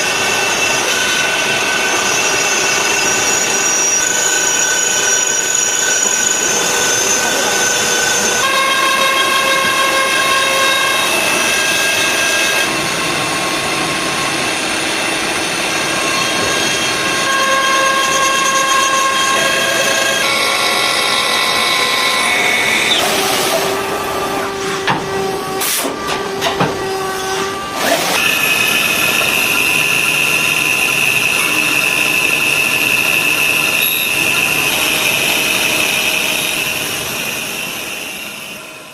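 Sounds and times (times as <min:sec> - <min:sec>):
machine tool whine: 0:00.0 - 0:38.9.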